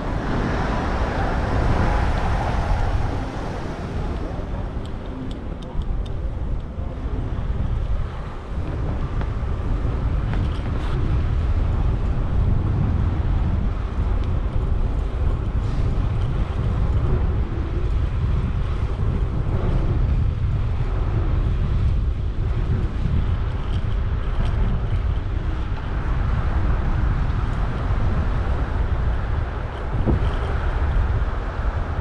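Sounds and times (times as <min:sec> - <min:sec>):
road and traffic noise: 0:00.0 - 0:32.0
wind buffeting microphone: 0:00.0 - 0:32.0.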